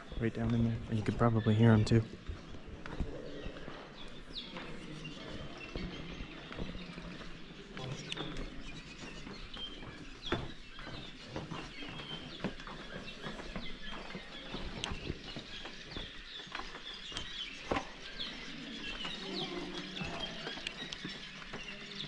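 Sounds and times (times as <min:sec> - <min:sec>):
swallows chirping: 0:00.0 - 0:22.0.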